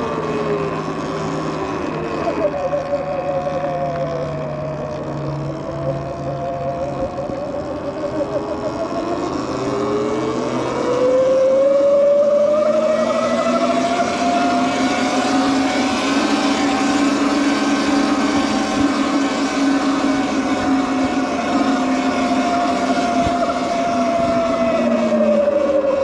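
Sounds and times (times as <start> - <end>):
electric bike motor whining: 0.0 - 26.0
wind: 0.0 - 26.0.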